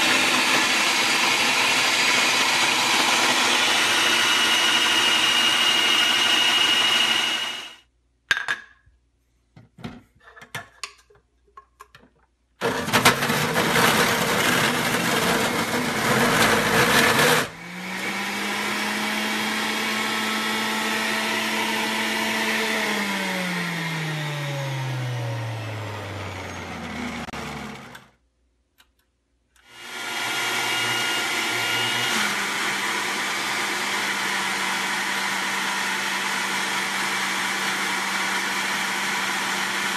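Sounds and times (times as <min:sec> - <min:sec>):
blender running: 0:00.0 - 0:07.8, 0:12.6 - 0:28.1, 0:29.6 - 0:39.9
juicer grinding carrots: 0:00.0 - 0:07.8, 0:12.6 - 0:28.1, 0:29.6 - 0:39.9.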